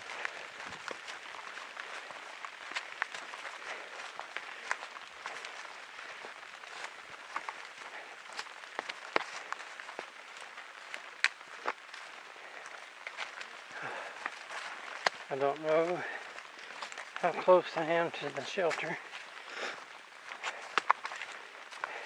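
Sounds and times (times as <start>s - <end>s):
light rain on an umbrella: 0.0s - 22.0s.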